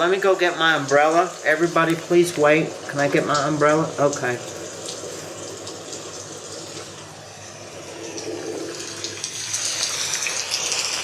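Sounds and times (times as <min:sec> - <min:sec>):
pouring water as rain: 0:00.0 - 0:11.0.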